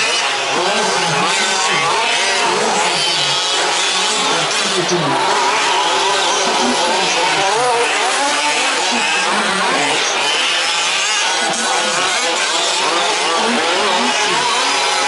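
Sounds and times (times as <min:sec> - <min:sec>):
model truck engines buzzing: 0:00.0 - 0:15.0.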